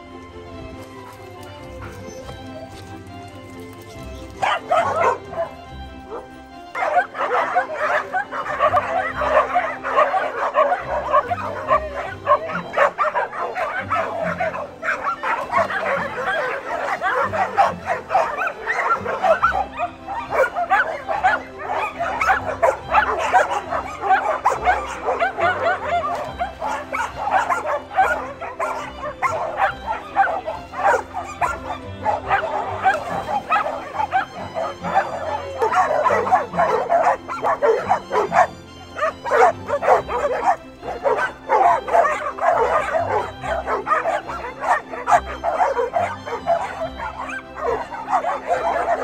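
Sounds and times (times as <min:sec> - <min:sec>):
pack of dogs barking: 0:00.0 - 0:49.0.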